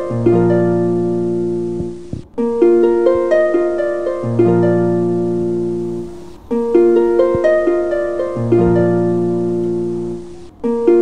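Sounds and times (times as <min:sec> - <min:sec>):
plucked harp-like arpeggios: 0:00.0 - 0:11.0.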